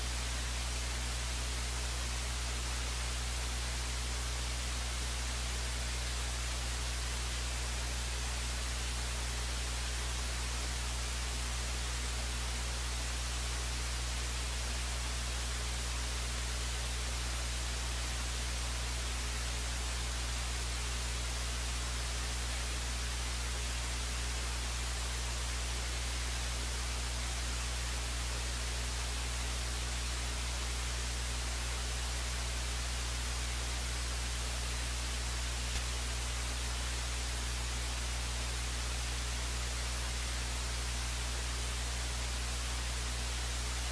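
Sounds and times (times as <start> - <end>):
low electrical hum: 0.0 - 43.9
static hiss: 0.0 - 43.9.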